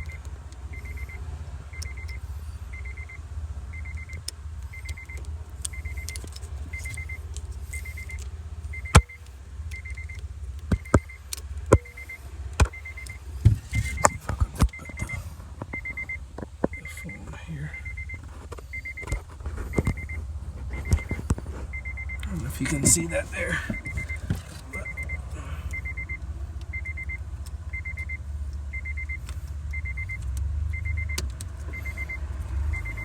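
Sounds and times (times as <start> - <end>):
car warning chime beeping: 0.0 - 33.0.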